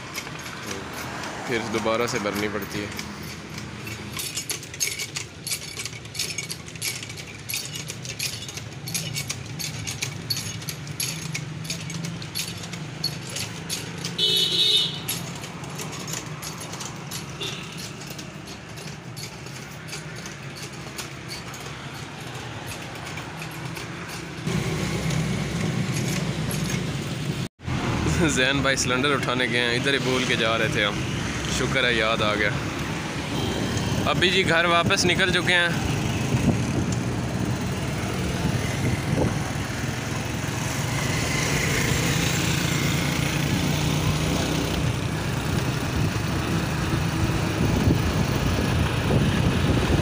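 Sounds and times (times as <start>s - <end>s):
traffic passing: 0.0s - 50.0s.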